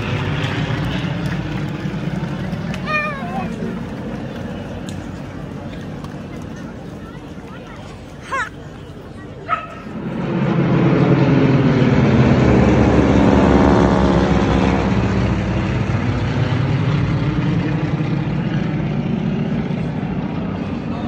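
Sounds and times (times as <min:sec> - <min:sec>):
propeller aircraft droning overhead: 0:00.0 - 0:21.0.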